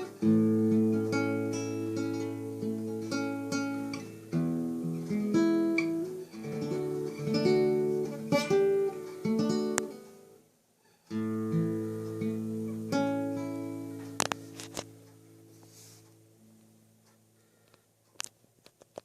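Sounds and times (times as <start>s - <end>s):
fingerstyle acoustic guitar: 0.0s - 17.6s.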